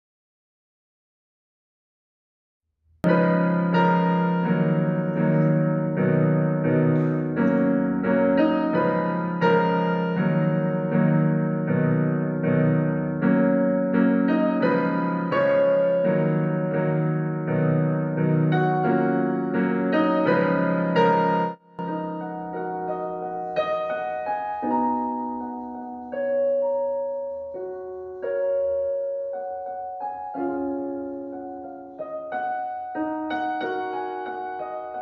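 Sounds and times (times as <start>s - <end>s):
gentle keyboard music: 3.0s - 35.0s.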